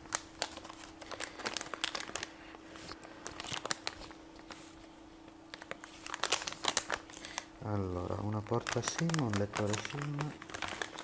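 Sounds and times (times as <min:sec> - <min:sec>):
faint steady hum: 0:00.0 - 0:11.0
packaging crinkling: 0:00.0 - 0:11.0.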